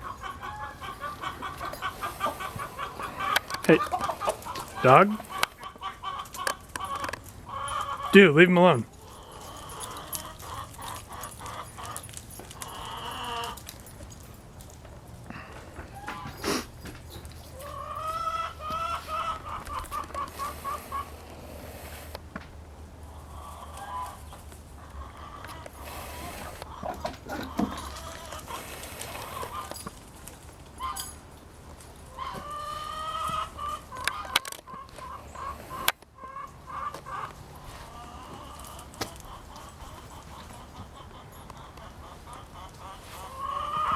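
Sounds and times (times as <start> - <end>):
faint animal calls: 0.0 - 12.0, 17.4 - 22.2, 23.0 - 29.9, 32.1 - 43.9
chickens clucking: 0.0 - 43.9.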